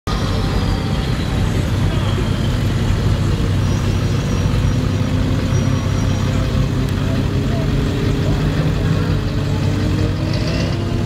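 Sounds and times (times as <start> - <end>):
truck driving past: 0.1 - 11.0.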